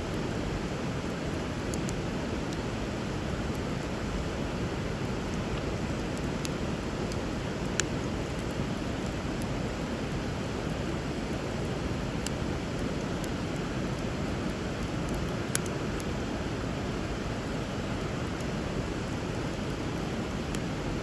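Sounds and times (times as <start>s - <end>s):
wood bonfire crackling: 0.1s - 21.0s.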